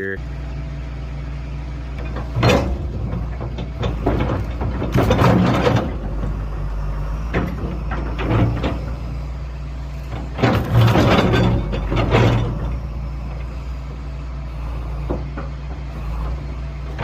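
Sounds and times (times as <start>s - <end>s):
excavator diesel engine running: 0.0s - 17.0s
excavator bucket splitting wood: 2.0s - 17.0s.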